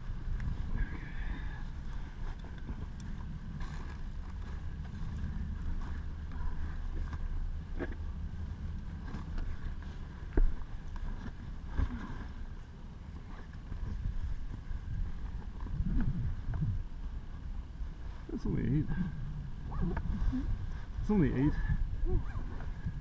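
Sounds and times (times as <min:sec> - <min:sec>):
low microphone rumble: 0:00.0 - 0:23.0.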